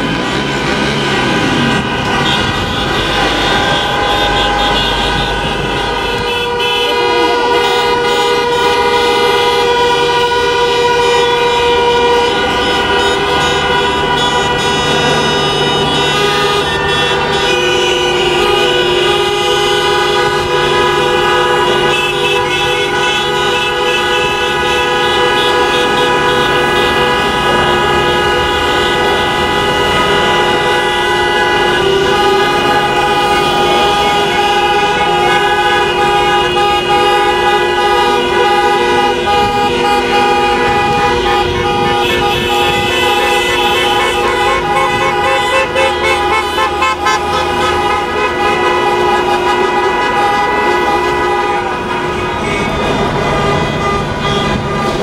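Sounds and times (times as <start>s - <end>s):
car horns honking: 0.0s - 55.0s
engine noise: 0.0s - 55.0s.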